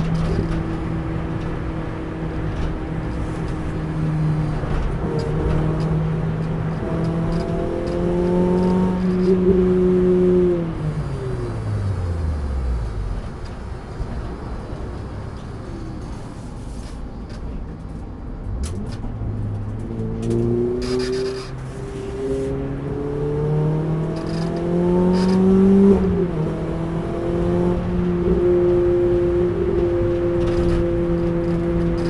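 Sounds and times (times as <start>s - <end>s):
car engine revving: 0.0s - 14.5s, 18.6s - 32.0s
road and tyre rumble: 0.0s - 32.0s.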